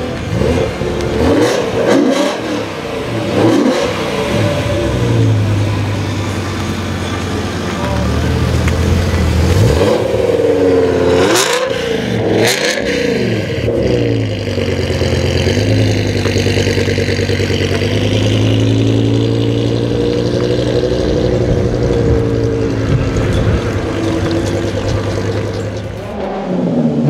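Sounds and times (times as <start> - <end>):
engine revving: 0.0 - 27.0
low exhaust note: 0.0 - 27.0.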